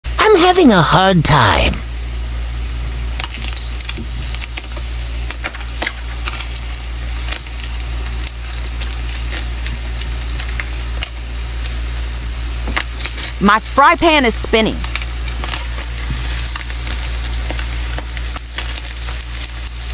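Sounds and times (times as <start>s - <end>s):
low steady hum: 0.1s - 19.9s
meat sizzling in hot oil: 2.0s - 13.4s, 14.8s - 19.9s.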